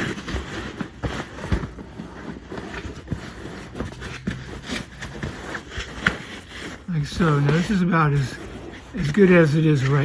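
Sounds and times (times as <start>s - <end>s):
fabric cover rustling: 0.0s - 10.0s
scrapes and short knocks: 0.0s - 10.0s.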